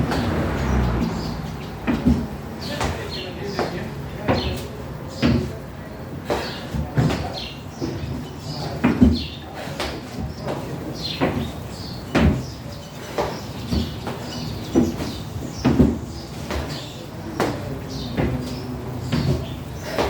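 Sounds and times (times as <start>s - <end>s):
feet thudding on a box: 0.0s - 4.6s, 5.2s - 5.6s, 6.2s - 20.0s.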